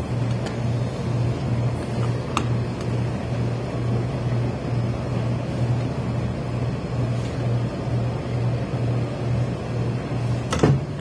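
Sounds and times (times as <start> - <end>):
pulsing machine hum: 0.0 - 11.0.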